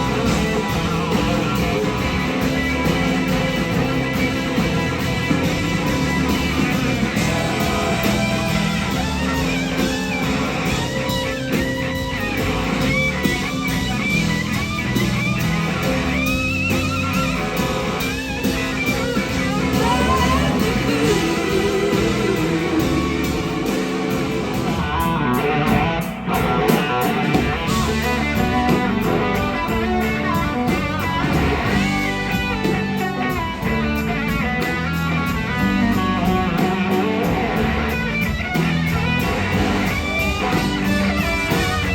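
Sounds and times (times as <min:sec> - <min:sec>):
rock blues band playing: 0:00.0 - 0:41.9.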